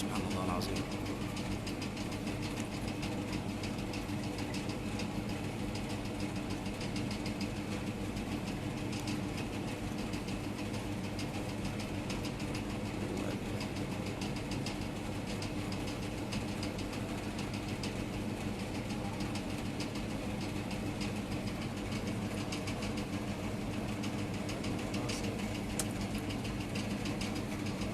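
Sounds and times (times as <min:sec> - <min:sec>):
low mechanical hum: 0:00.0 - 0:27.9.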